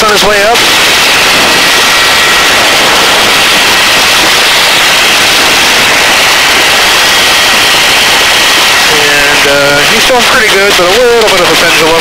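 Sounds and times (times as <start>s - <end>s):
hovering helicopter hiss: 0.0s - 12.0s.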